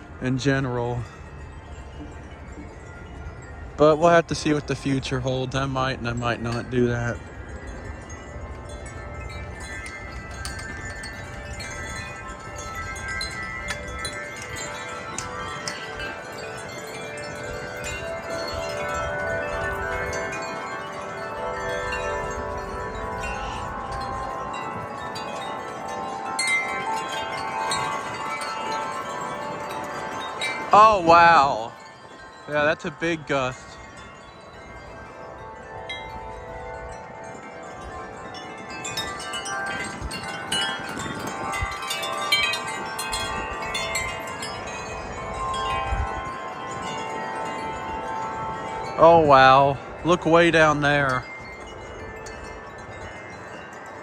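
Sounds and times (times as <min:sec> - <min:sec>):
metal wind chimes ringing: 0:00.0 - 0:54.0.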